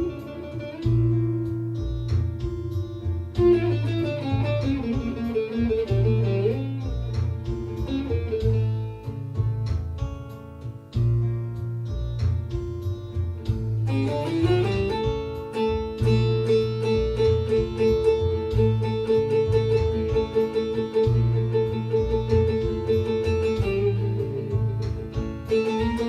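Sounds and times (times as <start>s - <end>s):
low bass accompaniment: 0.0s - 26.0s
plucked lute improvisation: 0.0s - 26.0s.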